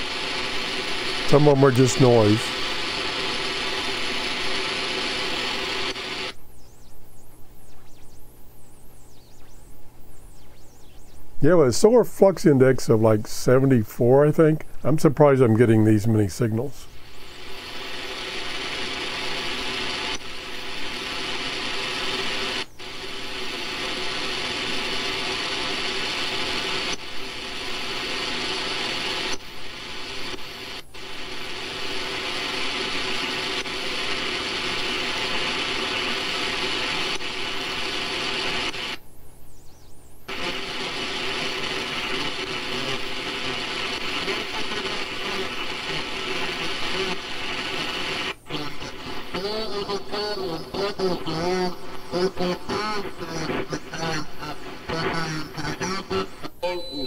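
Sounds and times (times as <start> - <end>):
faint radio signals: 0.0 - 57.0
radio static and hiss: 0.0 - 57.0.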